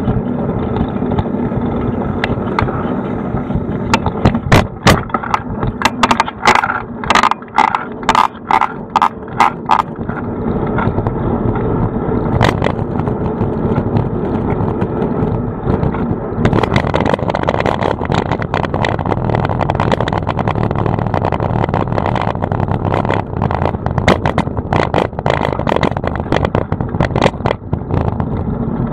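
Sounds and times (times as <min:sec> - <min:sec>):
bicycle tyre and road rumble: 0:00.0 - 0:28.9
sharp rattling knocks: 0:03.4 - 0:11.6, 0:12.3 - 0:28.5.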